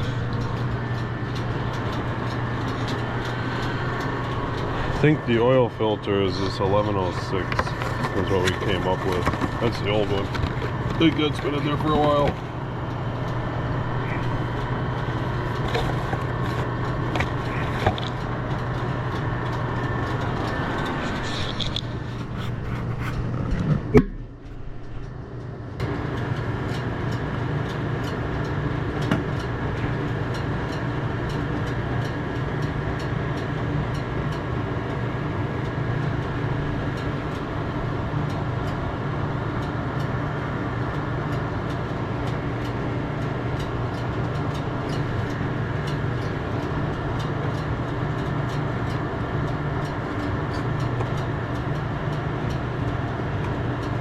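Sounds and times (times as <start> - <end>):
mechanical running hum: 0.0 - 54.0.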